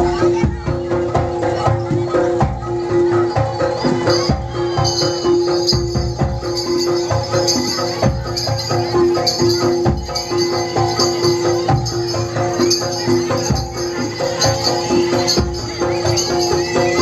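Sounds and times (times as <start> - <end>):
metal pitched percussion patterns: 0.0 - 17.0
steady jingling: 1.4 - 17.0.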